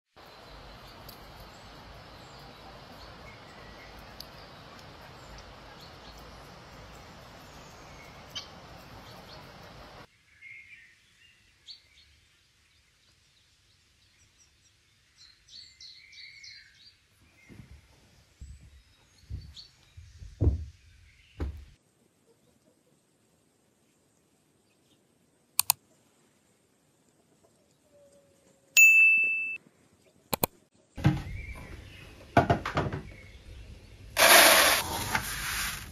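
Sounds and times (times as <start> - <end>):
outdoor ambient noise: 0.1 - 35.9
small birds chirping: 0.2 - 28.7, 29.8 - 34.2.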